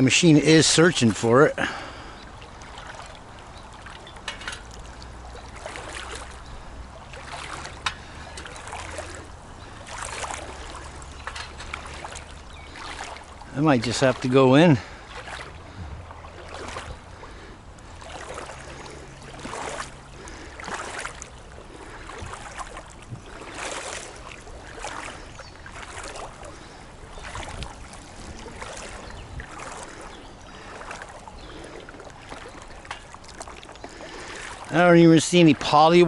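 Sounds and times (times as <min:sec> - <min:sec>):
person wading through water: 0:00.0 - 0:36.0.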